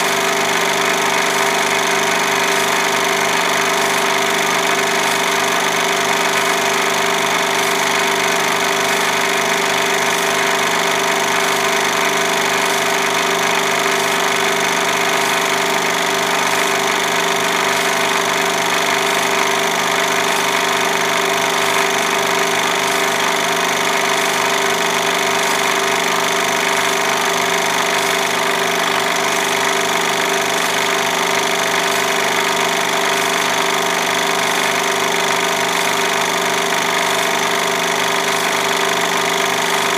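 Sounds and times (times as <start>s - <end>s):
film mechanism rattling: 0.0s - 39.9s
projector motor whirring: 0.0s - 39.9s.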